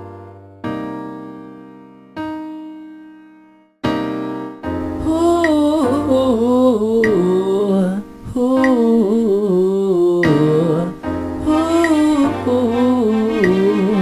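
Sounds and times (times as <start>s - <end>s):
electric piano chords: 0.0s - 14.0s.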